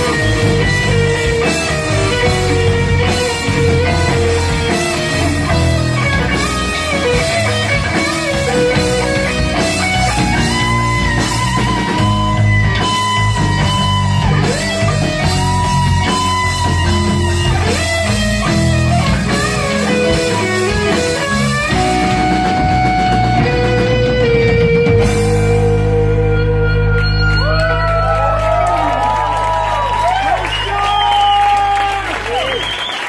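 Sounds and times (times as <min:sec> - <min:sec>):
instrumental rock music: 0:00.0 - 0:31.0.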